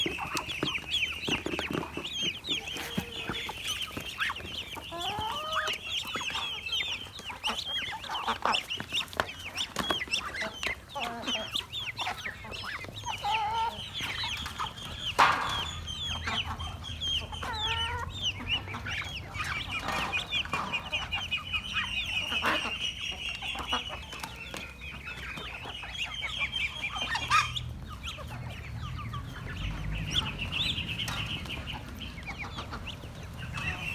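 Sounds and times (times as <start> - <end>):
ducklings peeping: 0.0 - 33.9.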